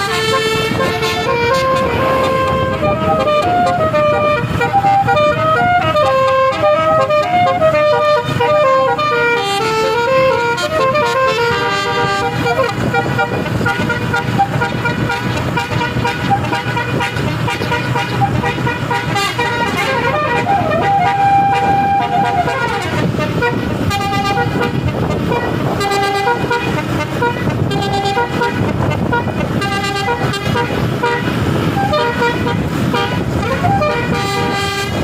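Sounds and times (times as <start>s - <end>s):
multi-note air horn tune: 0.0s - 35.0s.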